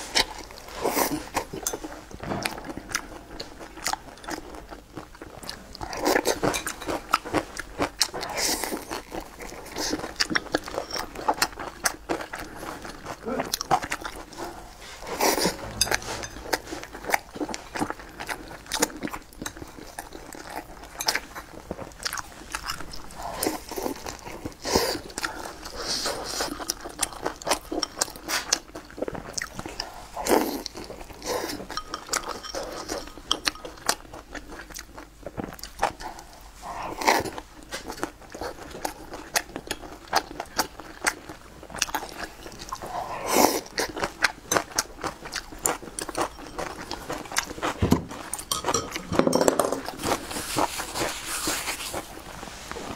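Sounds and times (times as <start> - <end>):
wet chewing and crunching: 0.0 - 52.9.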